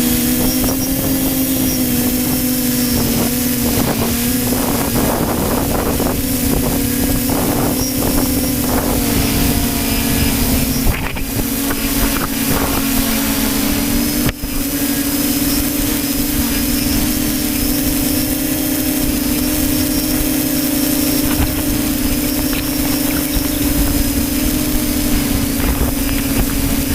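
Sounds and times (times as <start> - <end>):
model aircraft motor droning: 0.0 - 26.9
wind rumbling on microphone: 0.0 - 26.9.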